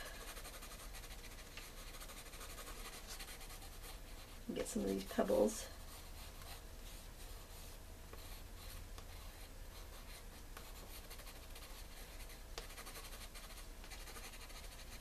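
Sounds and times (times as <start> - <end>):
pencil scratching on paper: 0.1 - 4.4, 5.8 - 15.0.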